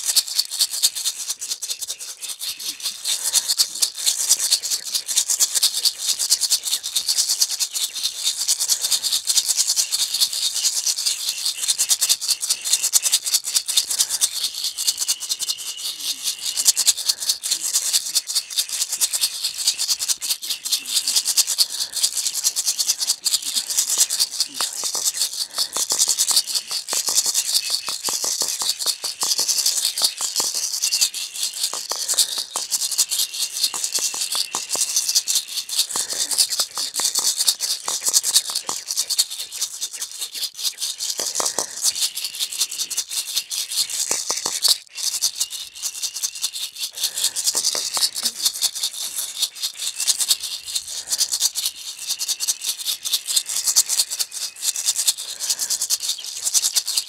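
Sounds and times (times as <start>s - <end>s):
gourd rattles shaking: 0.0s - 57.0s.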